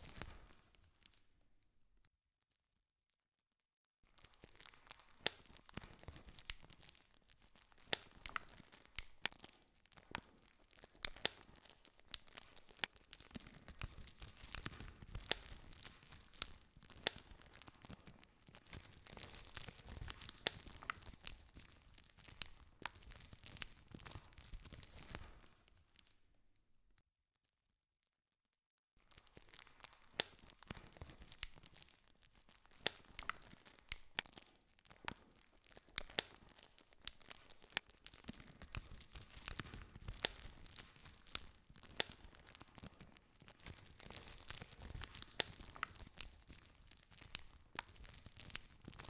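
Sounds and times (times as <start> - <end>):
campfire crackling: 4.2 - 25.7, 29.1 - 49.0.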